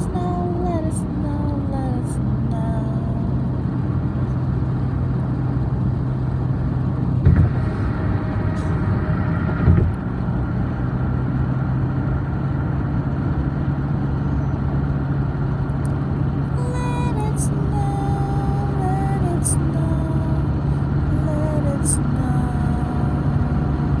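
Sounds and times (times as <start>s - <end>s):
car engine hum and tyre noise: 0.0s - 24.0s.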